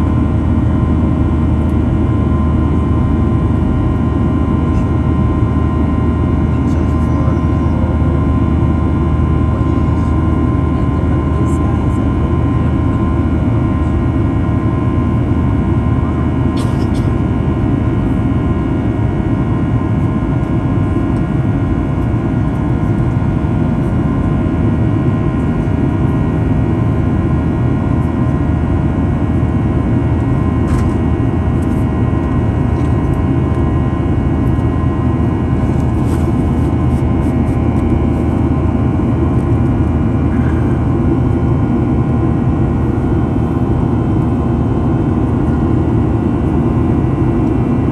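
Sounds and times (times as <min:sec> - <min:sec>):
engine fan whining tones: 0:00.0 - 0:47.9
jet engine roar and rushing air: 0:00.0 - 0:47.9.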